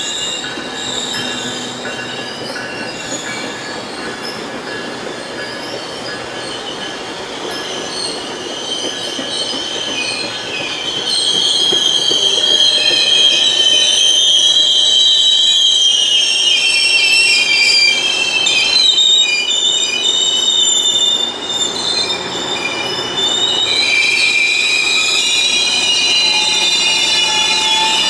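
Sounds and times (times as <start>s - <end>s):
metal wheels squealing: 0.0s - 28.0s
train rumble: 0.0s - 28.0s.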